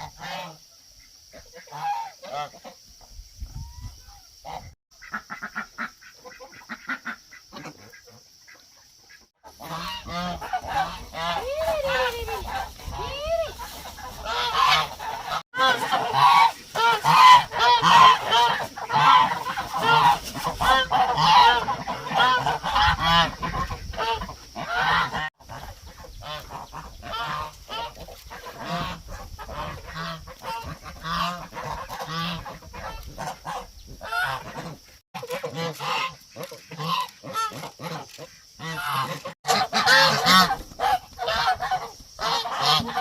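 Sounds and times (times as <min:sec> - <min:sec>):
ducks quacking: 0:00.0 - 0:03.0, 0:04.0 - 0:43.0.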